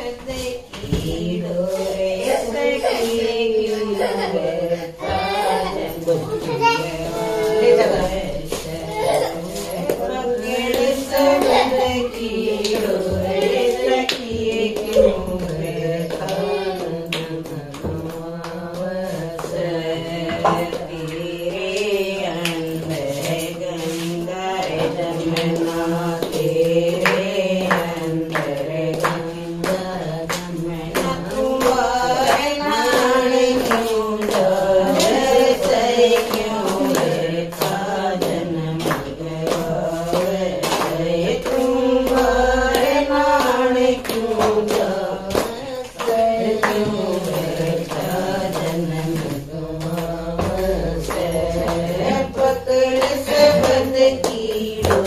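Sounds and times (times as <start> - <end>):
women singing a hymn: 0.0 - 55.0
hand-clapping: 9.5 - 19.7, 20.3 - 55.0.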